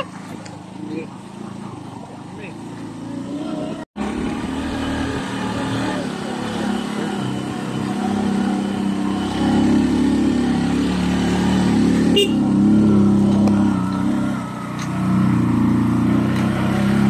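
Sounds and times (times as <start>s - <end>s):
small motorbike engine: 0.0s - 17.0s.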